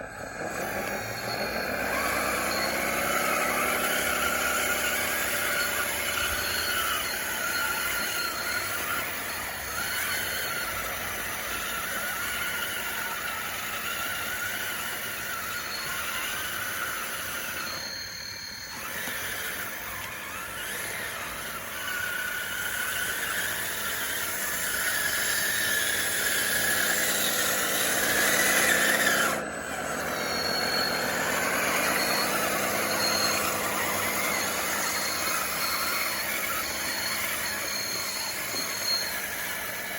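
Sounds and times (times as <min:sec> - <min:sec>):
electric motors and gearboxes whining: 0:00.0 - 0:39.9.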